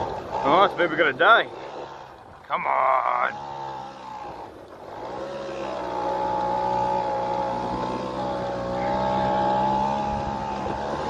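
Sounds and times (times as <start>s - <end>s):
scooter engine labouring: 0.0s - 11.0s.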